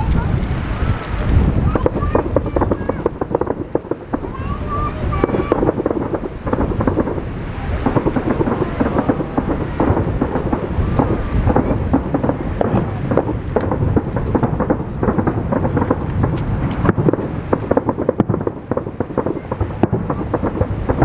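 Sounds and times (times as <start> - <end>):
fireworks crackling and booming: 0.0 - 21.0.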